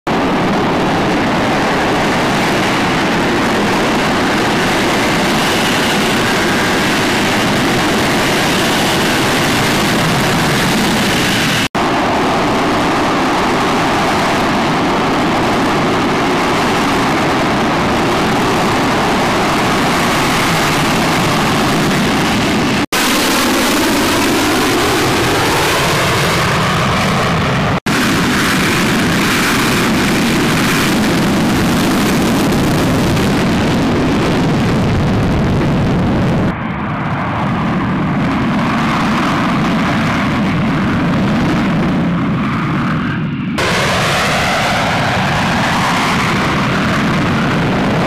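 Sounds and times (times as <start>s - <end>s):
jet engine roaring with whine: 0.0s - 48.0s.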